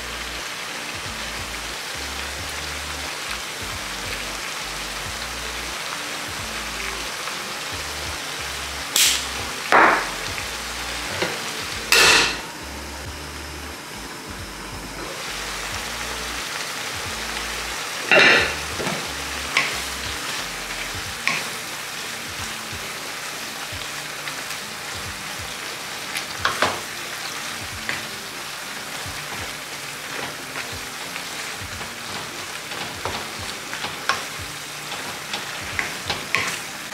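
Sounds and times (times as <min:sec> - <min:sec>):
food sizzling in a frying pan: 0:00.0 - 0:36.9.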